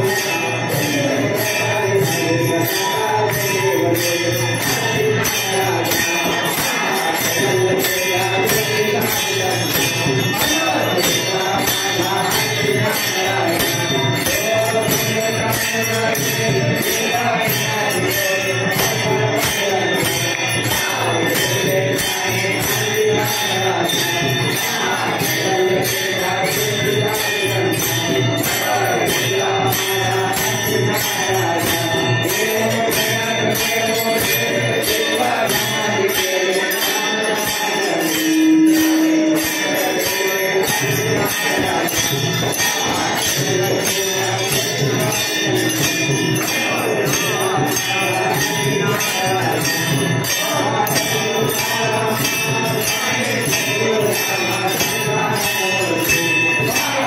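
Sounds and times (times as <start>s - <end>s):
jingling percussion: 0.0s - 57.0s.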